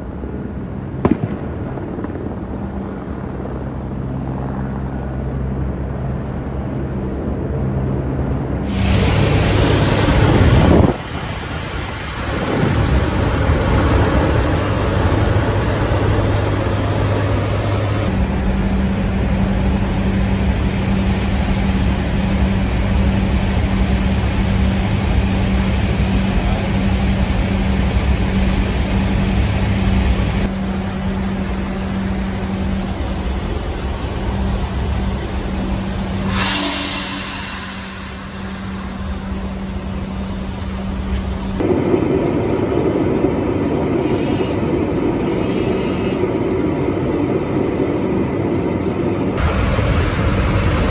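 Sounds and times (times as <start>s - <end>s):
helicopter engine and rotor noise: 0.0s - 50.9s
turboprop engines humming: 0.0s - 50.9s.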